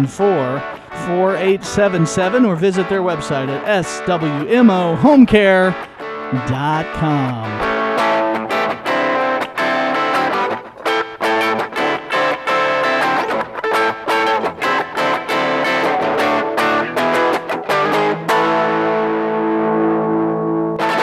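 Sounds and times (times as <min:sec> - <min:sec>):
distorted electric guitar music: 0:00.0 - 0:21.0.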